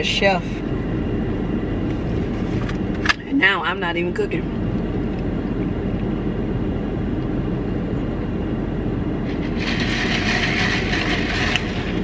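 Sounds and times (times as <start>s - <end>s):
low rumble inside a car: 0.0s - 12.0s.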